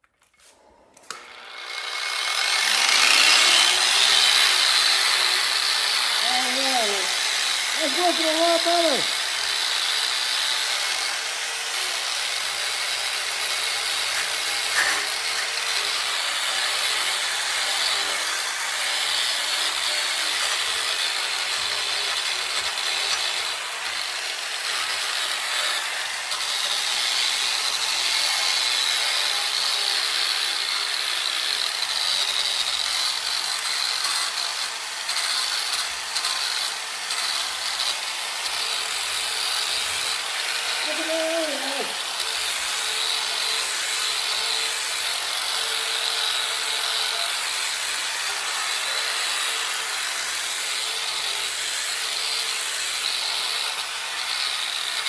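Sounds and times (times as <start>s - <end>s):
power grinder grinding metal: 0.2s - 55.0s.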